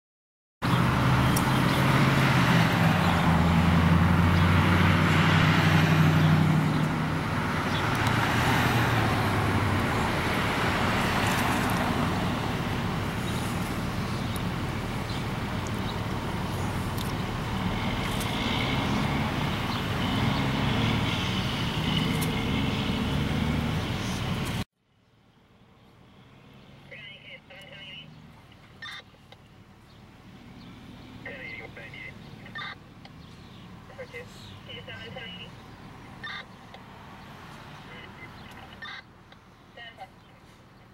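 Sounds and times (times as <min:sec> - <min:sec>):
traffic noise: 0:00.6 - 0:40.9
vehicle engine humming: 0:00.6 - 0:40.9.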